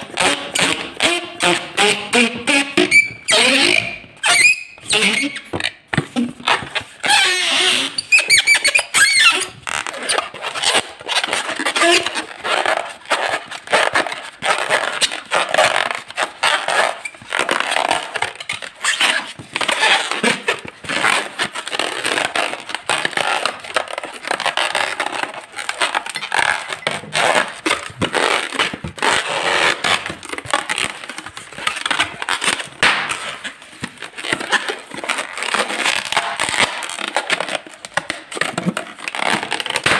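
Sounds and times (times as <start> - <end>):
balloon rubber squeaking: 0.0 - 39.9.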